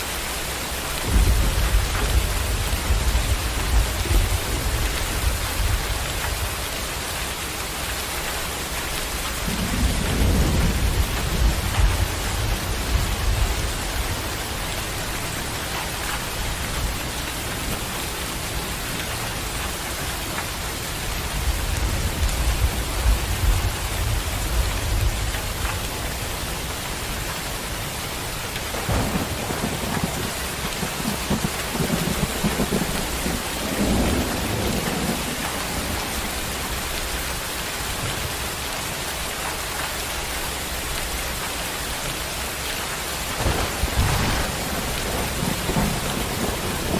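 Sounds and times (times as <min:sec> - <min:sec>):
heavy rain pouring: 0:00.0 - 0:46.9
thunder rumbling: 0:00.8 - 0:06.8, 0:08.8 - 0:38.5, 0:43.2 - 0:46.9.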